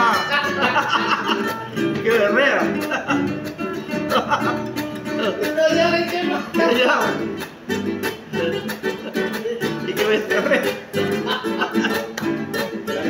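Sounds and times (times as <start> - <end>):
acoustic guitar plucked and strummed: 0.0 - 13.0.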